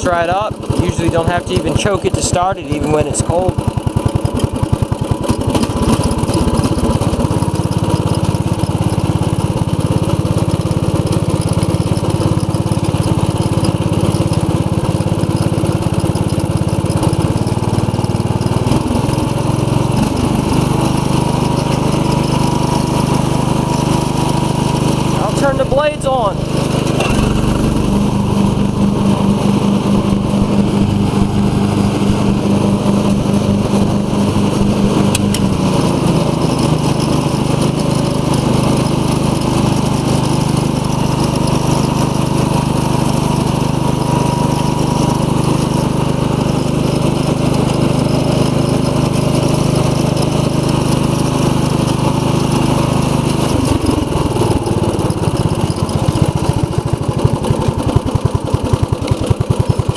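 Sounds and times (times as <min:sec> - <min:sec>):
riding lawn mower engine running: 0:00.0 - 0:59.9.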